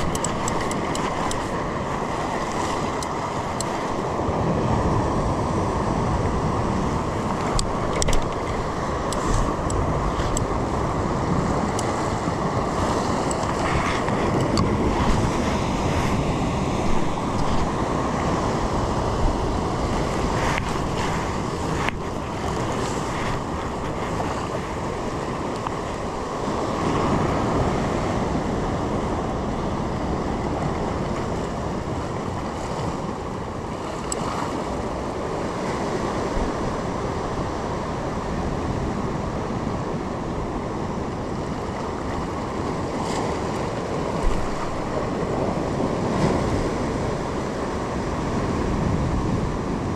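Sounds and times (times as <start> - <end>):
sea waves washing: 0.0 - 49.9
wind buffeting microphone: 0.0 - 49.9.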